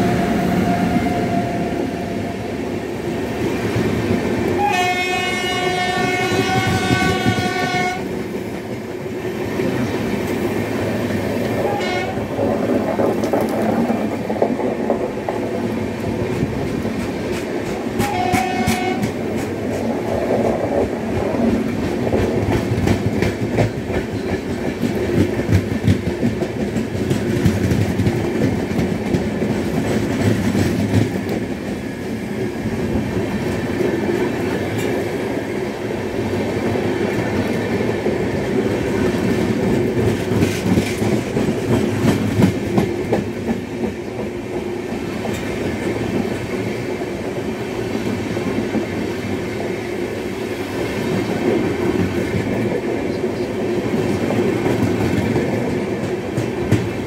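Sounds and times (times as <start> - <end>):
train rumbling past: 0.0 - 57.0
train wheels clacking on rail joints: 4.5 - 35.3, 36.3 - 57.0.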